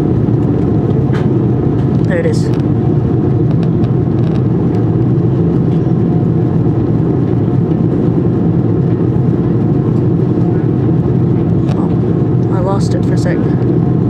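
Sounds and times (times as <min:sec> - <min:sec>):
airplane cabin drone: 0:00.0 - 0:14.0.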